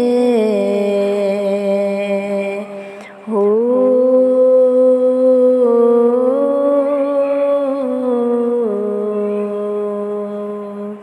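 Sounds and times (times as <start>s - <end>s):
person humming a wordless melody: 0.0s - 11.0s.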